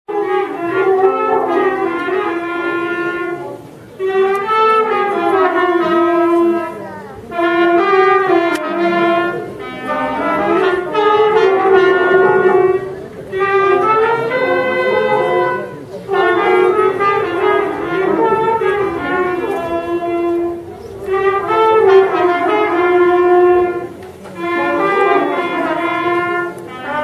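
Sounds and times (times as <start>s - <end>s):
brass band playing slow melody: 0.1s - 27.0s.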